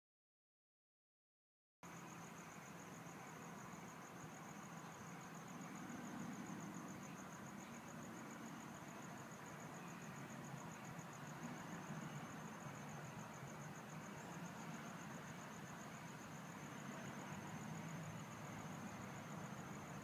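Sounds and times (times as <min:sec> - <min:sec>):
cricket trill: 0:01.8 - 0:20.0.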